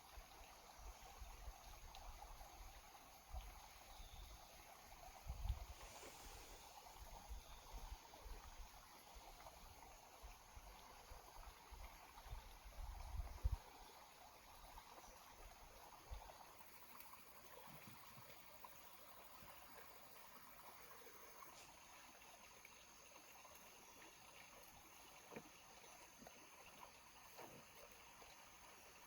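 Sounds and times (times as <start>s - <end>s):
faint background hiss: 0.0s - 29.0s.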